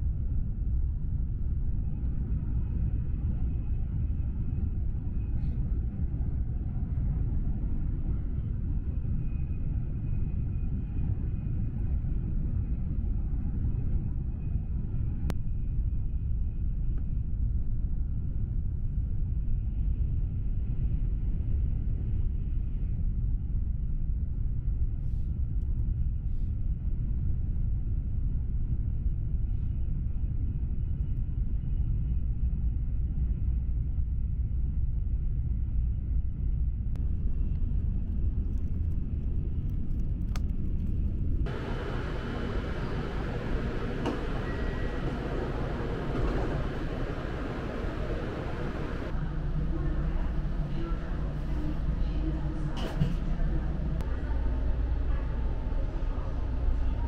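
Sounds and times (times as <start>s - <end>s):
train rumble inside cabin: 0.0s - 57.0s.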